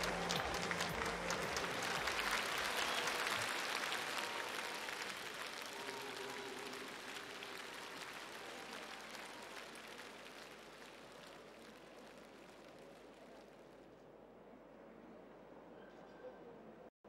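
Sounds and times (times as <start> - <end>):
audience applause: 0.0 - 13.8.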